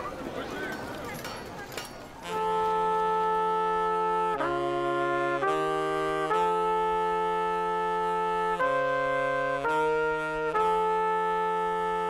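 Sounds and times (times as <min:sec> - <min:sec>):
brass and saxophone ensemble chords: 0:02.2 - 0:12.0.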